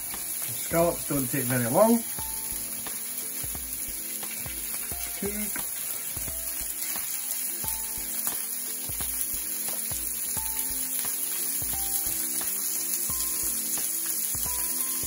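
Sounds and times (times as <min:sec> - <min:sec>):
scallops sizzling in a frying pan: 0:00.0 - 0:15.0
soft background music: 0:00.0 - 0:15.0.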